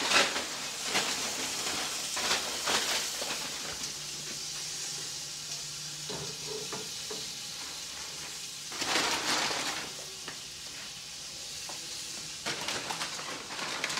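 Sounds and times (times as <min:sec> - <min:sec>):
steak sizzling on a grill: 0:00.0 - 0:13.9.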